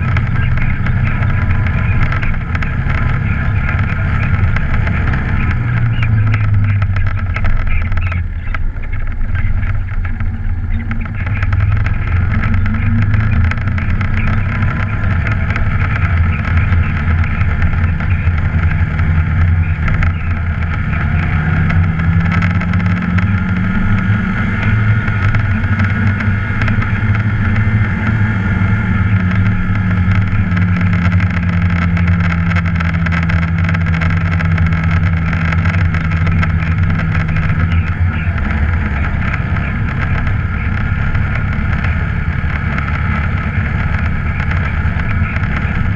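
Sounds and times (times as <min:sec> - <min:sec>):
quad bike engine running: 0:00.0 - 0:45.9.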